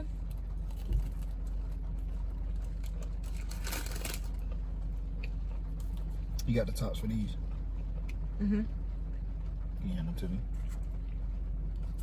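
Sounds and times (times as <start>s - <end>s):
car engine hum inside cabin: 0.0s - 12.0s.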